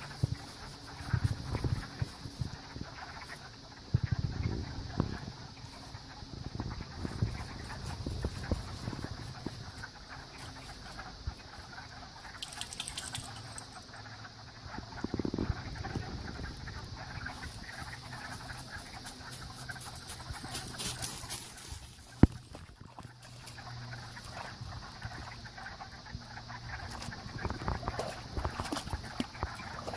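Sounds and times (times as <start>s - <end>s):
frog chorus: 0.0s - 29.9s.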